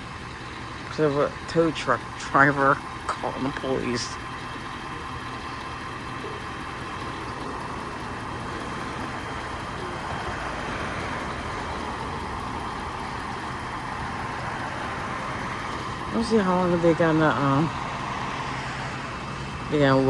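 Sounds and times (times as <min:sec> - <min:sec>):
vehicle engines idling: 0:00.0 - 0:20.0.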